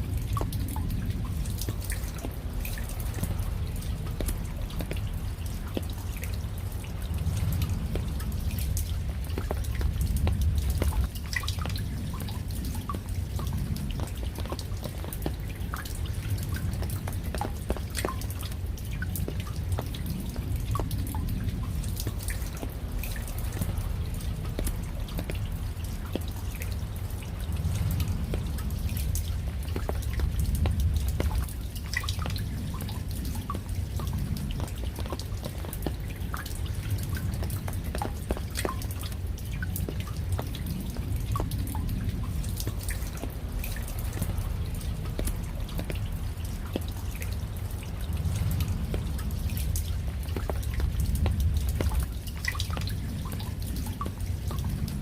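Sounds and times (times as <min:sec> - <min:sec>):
raindrops ticking and dripping: 0:00.0 - 0:55.0
steady low rumble: 0:00.0 - 0:55.0.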